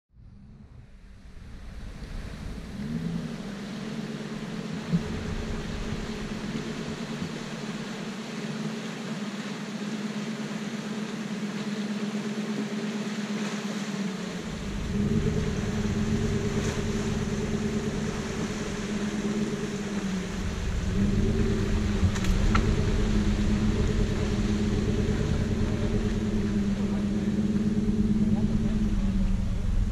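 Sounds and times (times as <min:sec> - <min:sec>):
engine running at low revs: 0:00.1 - 0:29.9.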